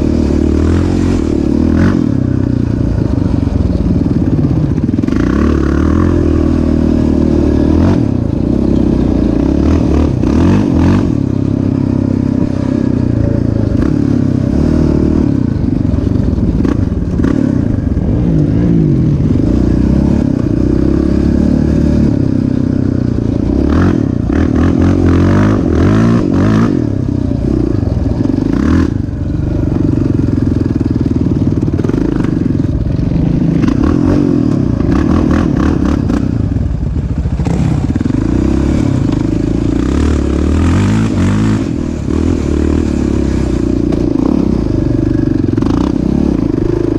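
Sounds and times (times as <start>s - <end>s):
off-road engine revving: 0.0s - 46.9s.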